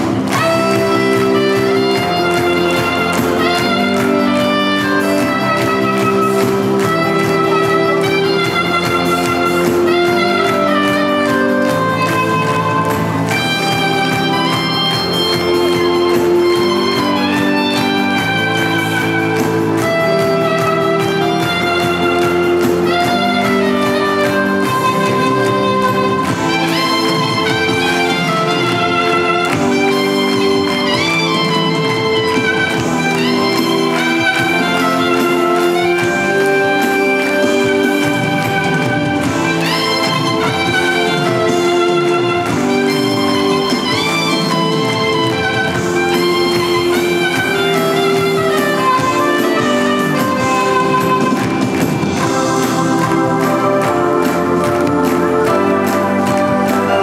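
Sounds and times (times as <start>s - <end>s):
electronic organ chords and bass: 0.0s - 57.0s
soprano saxophone melody: 0.0s - 57.0s.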